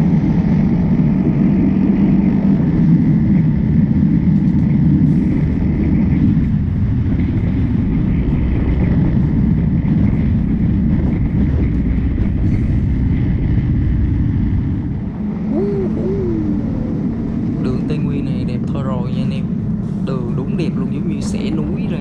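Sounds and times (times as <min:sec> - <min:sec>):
motorcycle engine and road noise: 0:00.0 - 0:22.0
wind rumble on microphone: 0:00.0 - 0:22.0.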